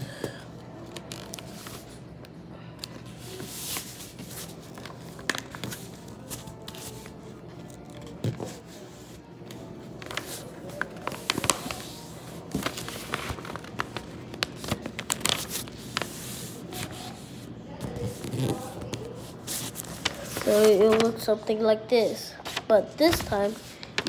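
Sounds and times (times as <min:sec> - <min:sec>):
paper crinkling and rustling: 0:02.8 - 0:21.3, 0:22.4 - 0:24.0.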